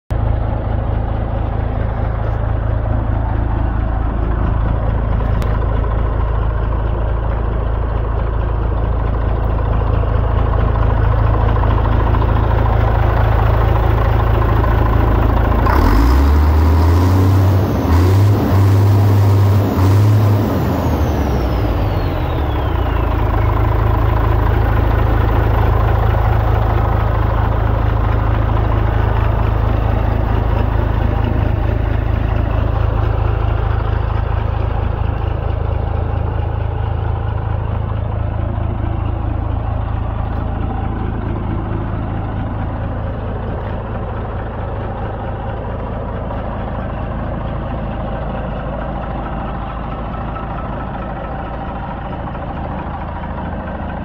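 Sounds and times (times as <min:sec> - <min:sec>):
truck diesel engine idling: 0:00.1 - 0:54.0.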